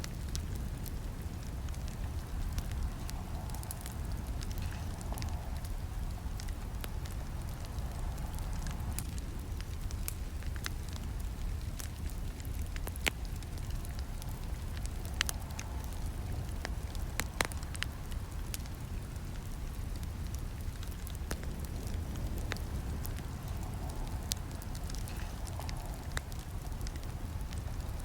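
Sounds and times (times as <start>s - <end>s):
campfire crackling and popping: 0.0s - 28.0s
low rumble of flames: 0.0s - 28.0s.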